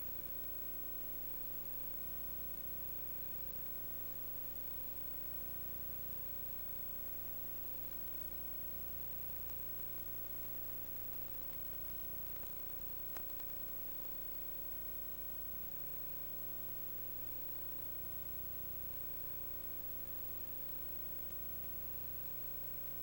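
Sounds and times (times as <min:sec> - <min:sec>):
electrical hum and hiss: 0:00.0 - 0:23.0
faint steady tone: 0:00.0 - 0:23.0.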